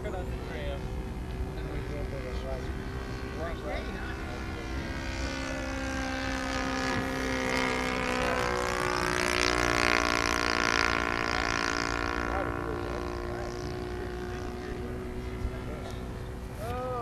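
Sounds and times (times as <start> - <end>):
model airplane engine droning: 0.0 - 17.0.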